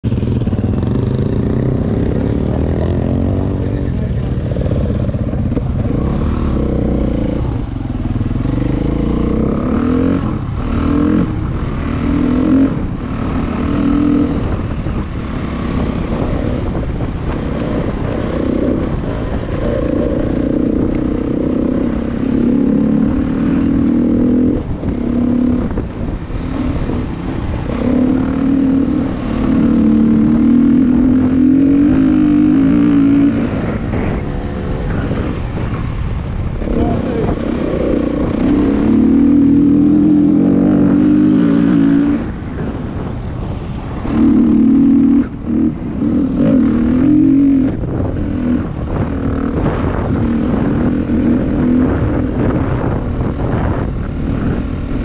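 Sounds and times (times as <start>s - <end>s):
dirt bike engine revving: 0.1s - 36.0s, 36.6s - 42.7s, 43.5s - 55.0s.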